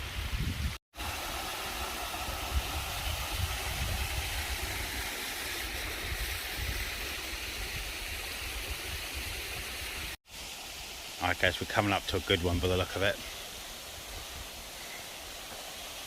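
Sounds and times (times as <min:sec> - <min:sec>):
stream water rushing: 0:00.9 - 0:16.0.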